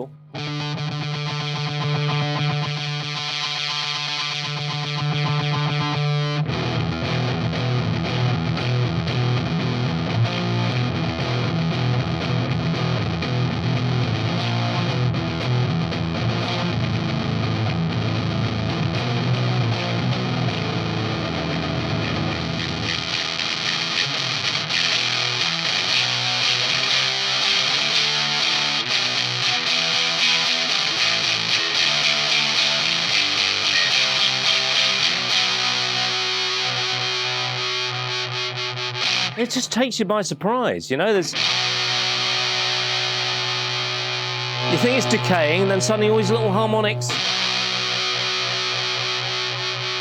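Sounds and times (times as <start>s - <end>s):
distorted electric guitar riffing: 0.0s - 39.7s, 41.3s - 50.0s.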